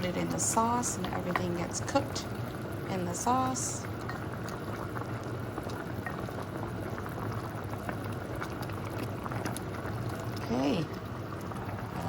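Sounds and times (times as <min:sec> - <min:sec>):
liquid bubbling at a rolling boil: 0:00.0 - 0:12.0
steady low hum: 0:00.0 - 0:12.0.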